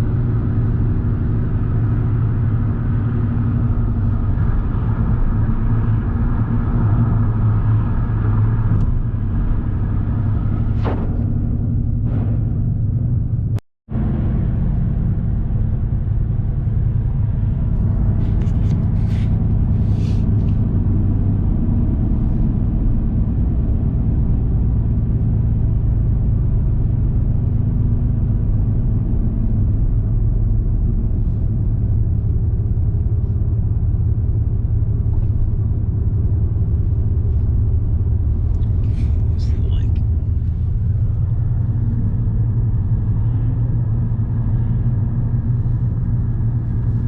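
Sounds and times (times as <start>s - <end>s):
car engine rumble: 0.0s - 47.0s
road noise inside car: 0.0s - 47.0s.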